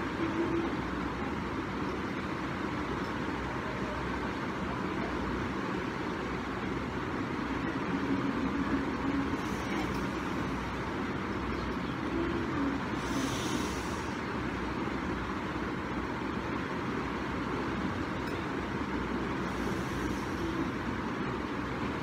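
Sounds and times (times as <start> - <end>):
low rumble and hiss: 0.0 - 22.0
soft hiss: 0.0 - 22.0.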